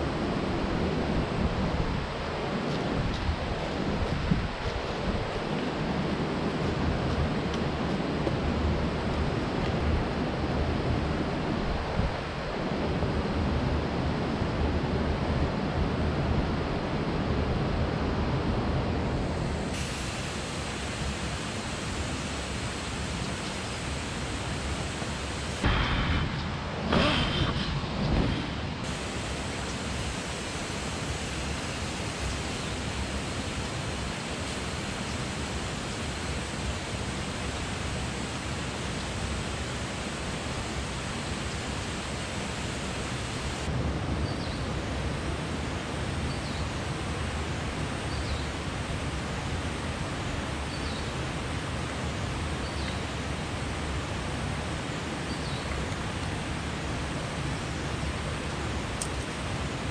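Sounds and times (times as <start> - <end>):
river water running over rocks: 0.0 - 59.9.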